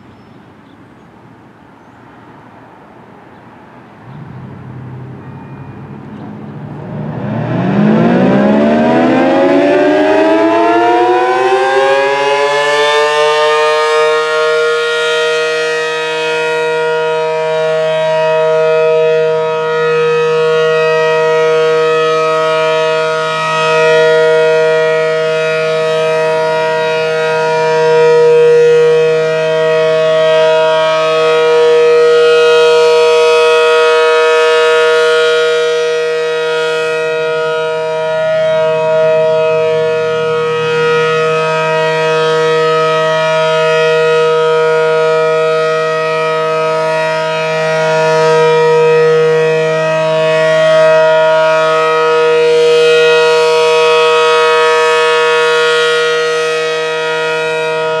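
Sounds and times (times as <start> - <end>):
rotating warning siren: 3.5 - 58.0.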